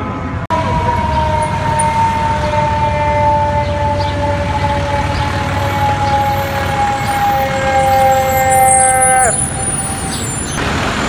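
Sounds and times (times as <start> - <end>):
engines and traffic rumble: 0.0 - 11.0
fire truck siren wailing: 0.0 - 11.0.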